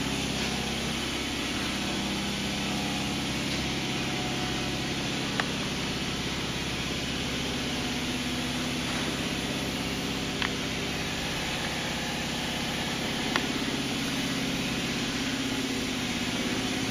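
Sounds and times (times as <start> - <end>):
mixer motor humming: 0.0 - 16.9.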